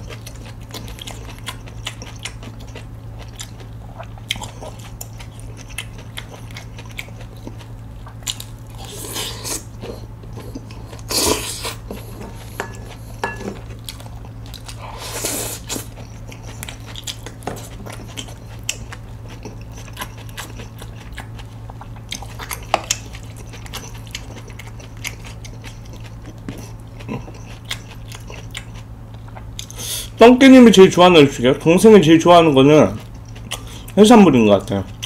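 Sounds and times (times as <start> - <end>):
wet chewing clicks: 0.0 - 13.0, 15.6 - 29.8, 32.9 - 34.0
steady low hum: 0.0 - 35.0.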